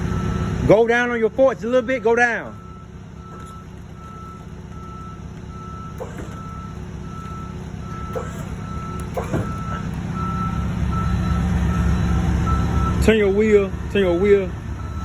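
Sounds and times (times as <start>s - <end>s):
backup alarm beeping: 0.0s - 15.0s
forklift engine running: 0.0s - 15.0s.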